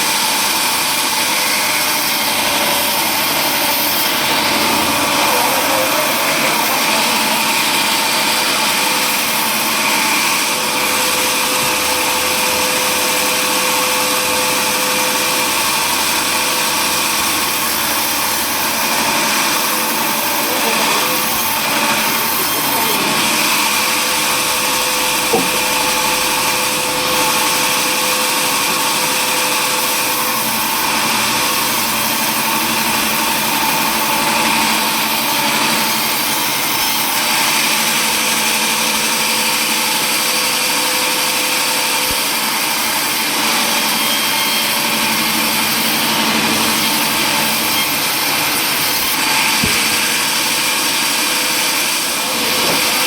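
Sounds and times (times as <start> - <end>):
power saw cutting wood: 0.0 - 53.0.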